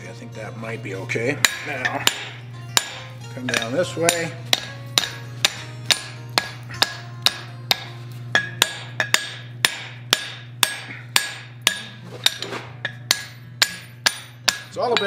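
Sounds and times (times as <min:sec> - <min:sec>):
hammer striking metal on anvil: 0:01.3 - 0:15.0.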